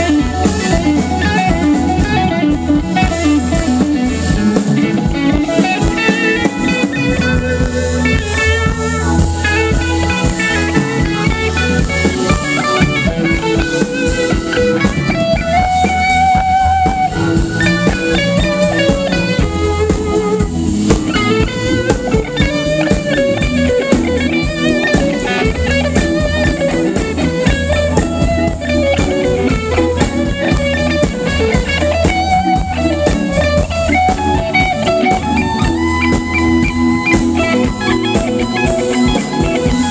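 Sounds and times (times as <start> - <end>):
blues rock band playing: 0.0 - 39.9
electric guitar bending notes: 0.0 - 39.9.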